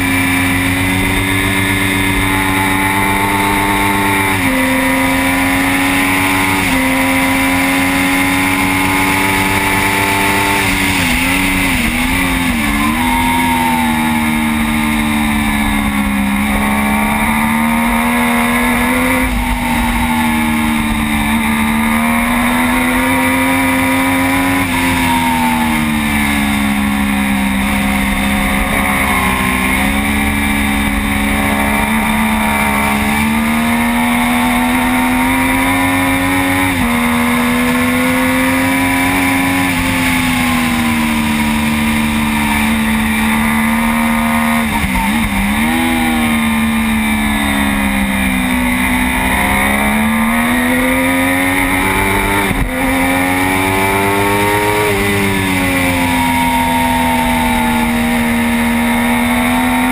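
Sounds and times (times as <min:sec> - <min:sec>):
racing motorcycle engine at speed: 0:00.0 - 0:59.9.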